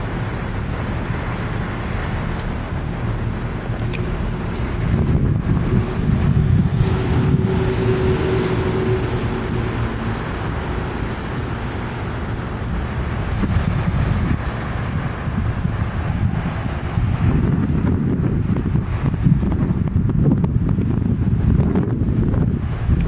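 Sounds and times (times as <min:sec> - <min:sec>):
road traffic hum: 0:00.0 - 0:23.0
wind rumbling on microphone: 0:00.0 - 0:23.0.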